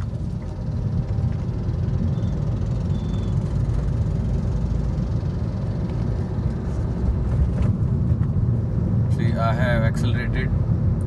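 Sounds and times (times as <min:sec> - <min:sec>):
car engine drone: 0:00.0 - 0:11.0
tyre and road rumble: 0:00.0 - 0:11.0.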